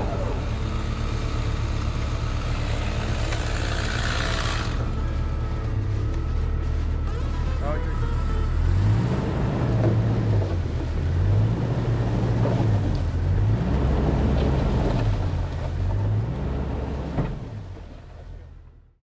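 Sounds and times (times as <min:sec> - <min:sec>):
vehicle engine running: 0:00.0 - 0:18.8.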